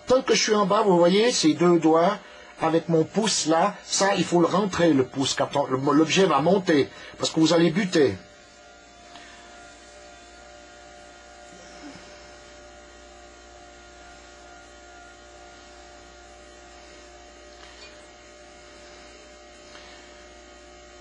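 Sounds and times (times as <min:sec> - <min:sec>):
potter's wheel humming: 0:00.0 - 0:21.0.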